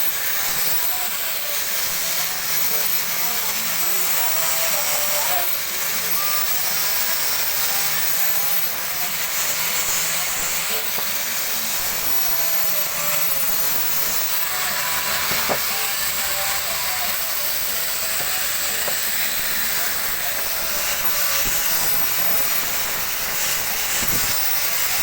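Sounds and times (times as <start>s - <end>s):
power tool running: 0.0s - 25.0s.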